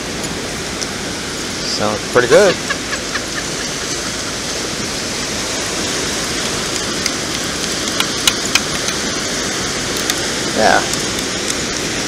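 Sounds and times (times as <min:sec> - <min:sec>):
rushing beach noise: 0:00.0 - 0:12.0.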